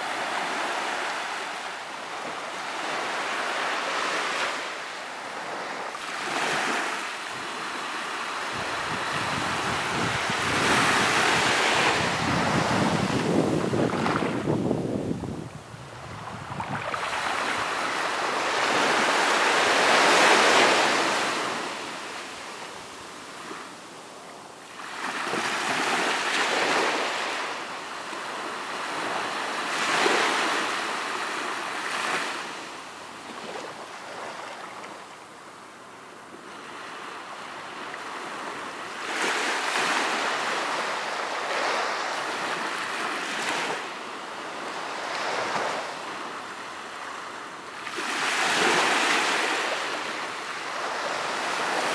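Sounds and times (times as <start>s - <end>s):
ocean waves breaking on beach: 0.0s - 51.9s.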